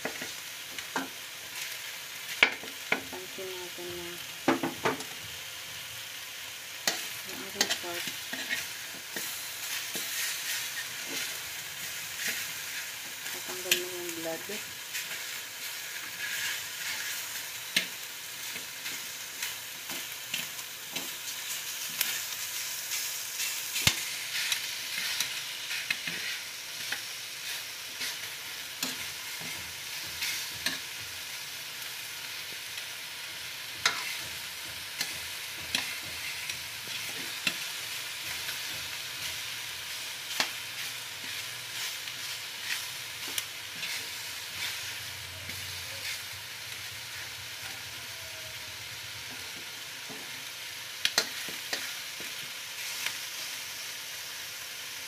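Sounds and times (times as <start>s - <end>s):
pork sizzling in a pan: 0.0s - 55.0s.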